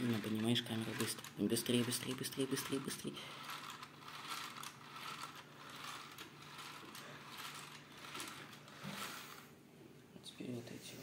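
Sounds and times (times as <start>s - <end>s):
plastic gears whirring and clicking: 0.0s - 9.4s.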